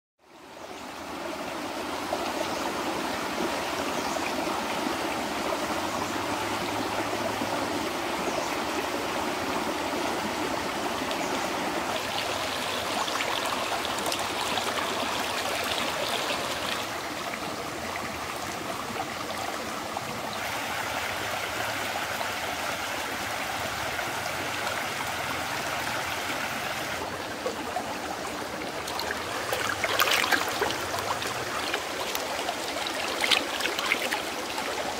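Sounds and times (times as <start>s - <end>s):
stream running over rocks: 0.4s - 34.9s.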